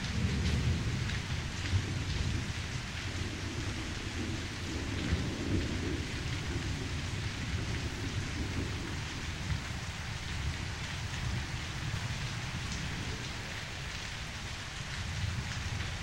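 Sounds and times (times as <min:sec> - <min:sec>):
low thunder rumble: 0:00.0 - 0:13.8
steady rain: 0:00.0 - 0:16.0.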